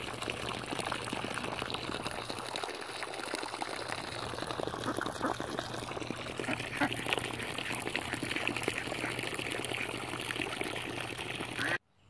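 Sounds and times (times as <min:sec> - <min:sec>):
ducks dabbling in water: 0:00.0 - 0:11.8
hose water running into puddle: 0:00.0 - 0:11.8.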